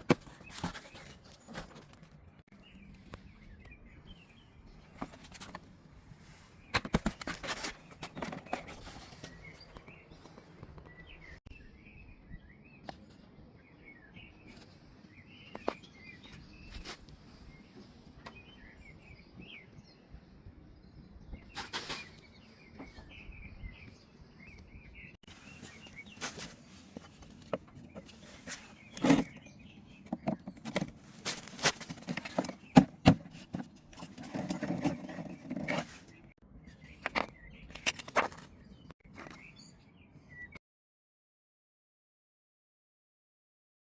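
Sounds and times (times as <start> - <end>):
faint birds chirping: 0.0 - 40.6.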